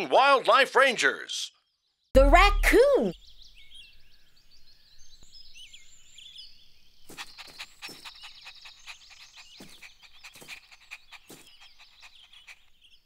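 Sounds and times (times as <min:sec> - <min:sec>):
birds chirping: 0:01.5 - 0:13.0.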